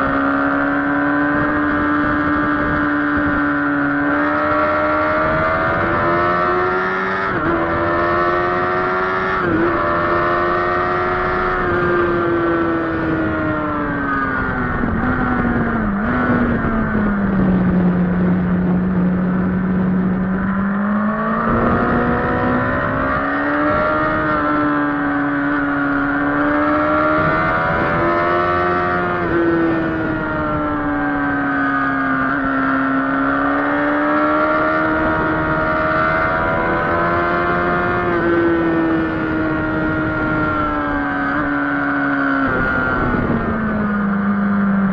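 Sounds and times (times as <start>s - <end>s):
motorcycle engine at high revs: 0.0s - 44.9s.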